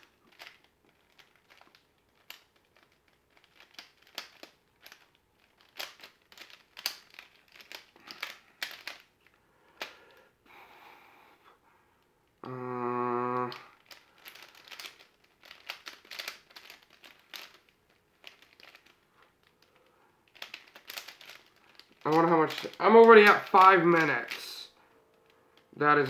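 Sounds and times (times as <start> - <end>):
puzzle cube clicking and scraping: 0.0 - 10.1, 12.5 - 25.2.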